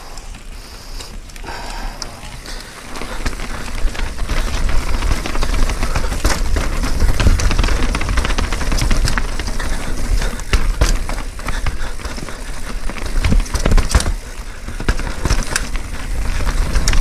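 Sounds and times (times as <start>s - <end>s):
constant low rumble: 0.0s - 17.0s
bike clattering over rocks: 2.3s - 17.0s.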